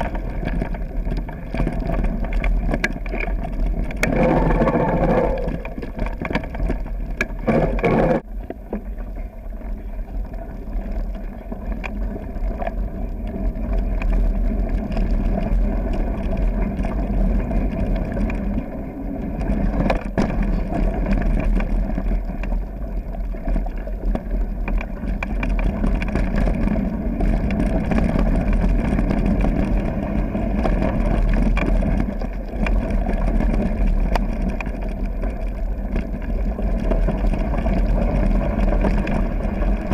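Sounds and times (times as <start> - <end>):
bike rattling: 0.0 - 39.9
tyres rumbling on gravel trail: 0.0 - 39.9.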